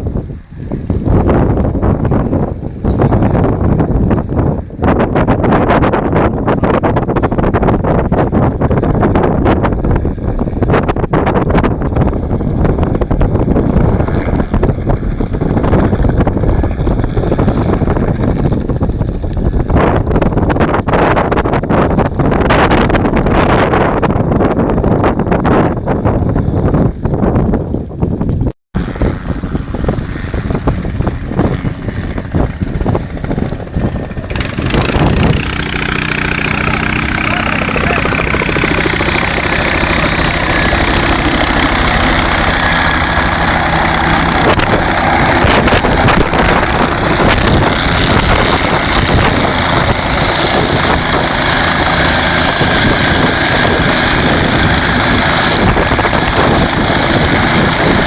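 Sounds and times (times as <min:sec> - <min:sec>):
helicopter engine and rotor: 0:00.0 - 0:21.0, 0:28.8 - 0:58.0
gusty buffeting: 0:00.0 - 0:58.0.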